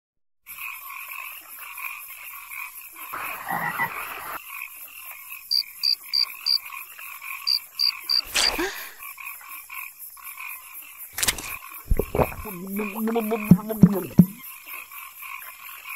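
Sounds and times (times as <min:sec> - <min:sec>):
frogs croaking chorus: 0:00.5 - 0:08.3, 0:09.0 - 0:15.9.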